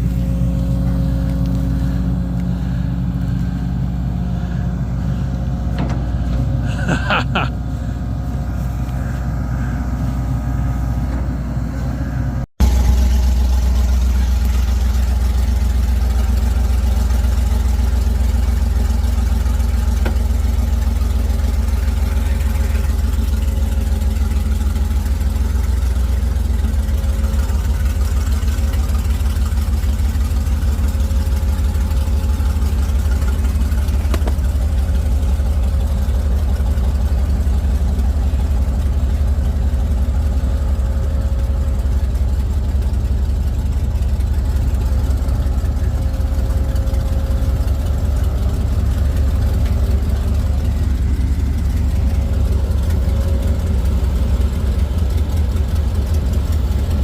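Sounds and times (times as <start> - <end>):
heavy engine rumbling: 0.0 - 57.0.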